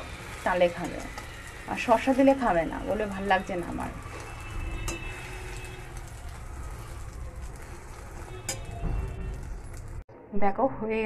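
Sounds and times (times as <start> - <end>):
flatbread sizzling in oil: 0.0 - 10.0.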